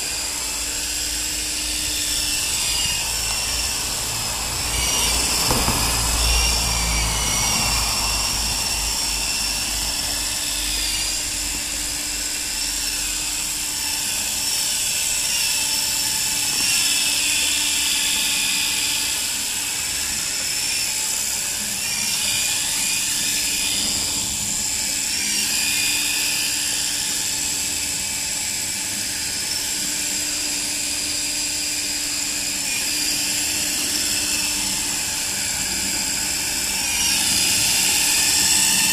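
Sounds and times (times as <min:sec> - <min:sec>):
toy helicopter motors whining: 0:00.0 - 0:38.9.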